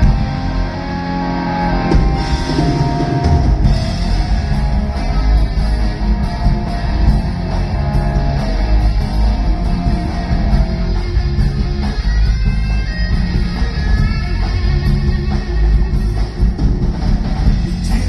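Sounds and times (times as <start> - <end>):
electric guitar: 0.0 - 18.0
live rock band playing: 0.0 - 18.0.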